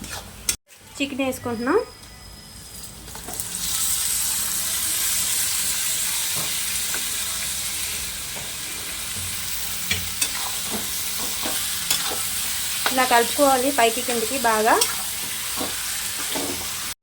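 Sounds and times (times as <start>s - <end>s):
chicken sizzling in hot oil: 2.8s - 17.0s.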